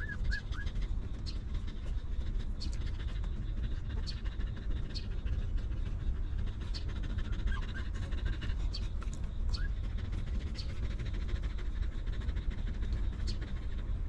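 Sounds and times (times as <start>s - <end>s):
dog panting: 0.0s - 14.0s
steady low rumble: 0.0s - 14.0s.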